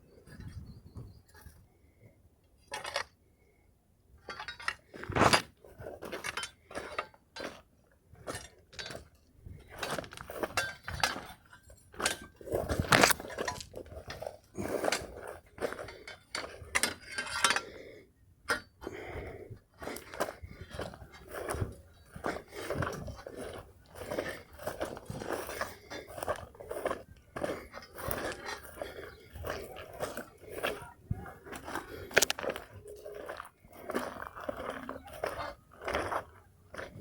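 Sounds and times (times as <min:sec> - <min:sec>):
footsteps crunching through scrub: 0:05.0 - 0:16.6, 0:19.0 - 0:37.0.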